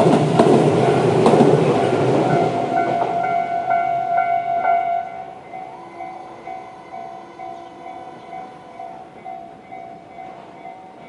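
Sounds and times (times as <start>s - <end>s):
level-crossing warning bell: 0.0s - 11.0s.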